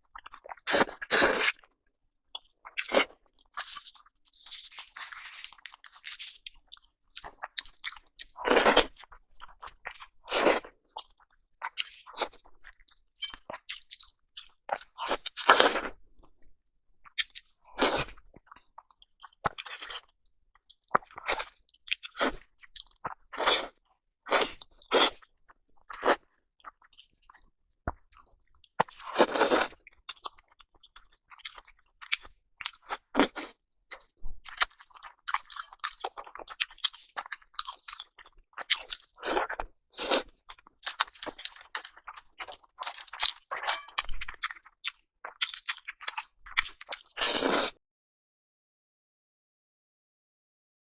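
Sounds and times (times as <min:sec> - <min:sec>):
crunching and chewing food: 0:00.0 - 0:47.8.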